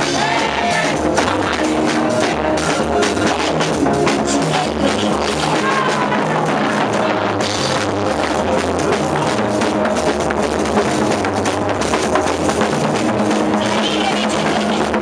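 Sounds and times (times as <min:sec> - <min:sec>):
bass: 0:00.0 - 0:15.0
drum kit beating: 0:00.0 - 0:15.0
loud band music: 0:00.0 - 0:15.0.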